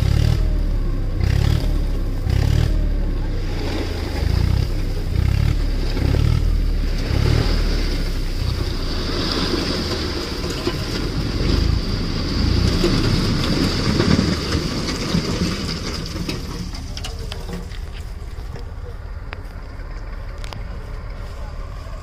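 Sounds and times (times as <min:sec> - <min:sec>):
tractor engine rumble: 0:00.0 - 0:22.0
soil sliding and pouring out: 0:03.2 - 0:22.0.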